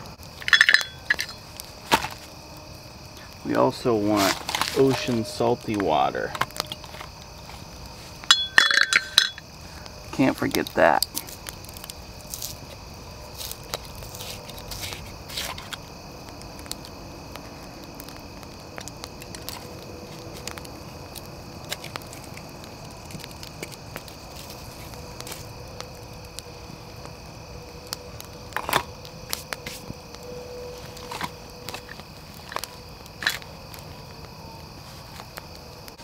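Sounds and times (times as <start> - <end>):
insect drone: 0.0 - 36.0
wood fire crackling and popping: 0.0 - 36.0.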